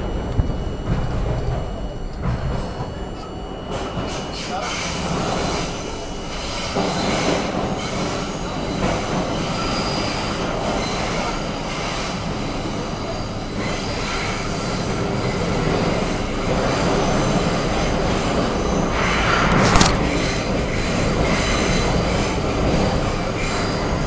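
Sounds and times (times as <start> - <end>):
subway wheels on rail: 0.0 - 24.0.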